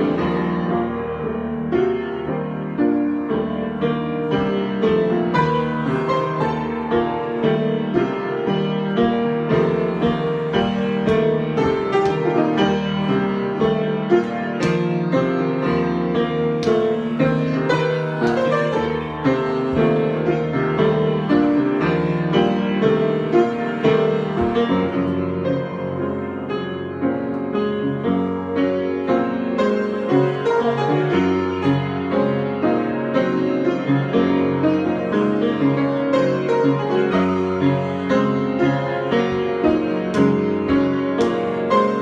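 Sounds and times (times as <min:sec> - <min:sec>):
solo piano: 0:00.0 - 0:42.0.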